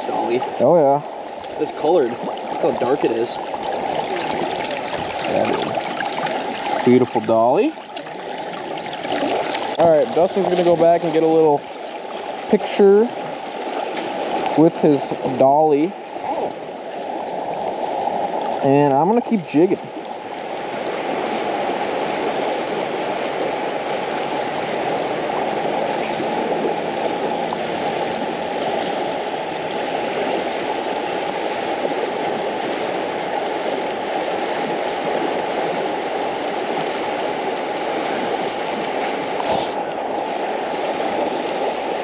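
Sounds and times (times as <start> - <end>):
river current flowing: 0.0 - 42.0.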